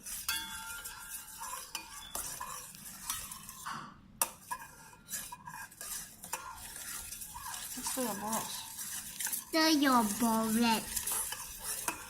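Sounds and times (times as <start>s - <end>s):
teaspoon stirring in bowl: 0.0s - 12.0s.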